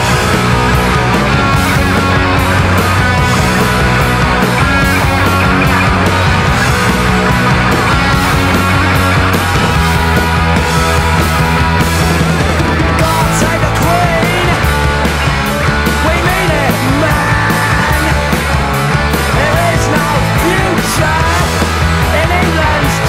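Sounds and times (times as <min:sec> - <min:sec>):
loud punk rock music: 0:00.0 - 0:23.0.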